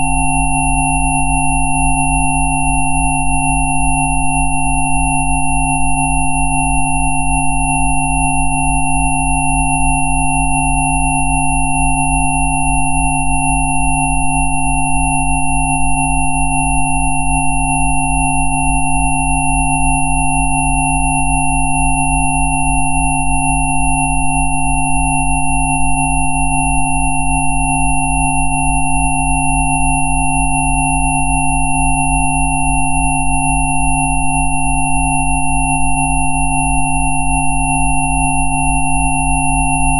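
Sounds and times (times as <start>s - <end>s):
thin high sine tone: 0.0s - 39.9s.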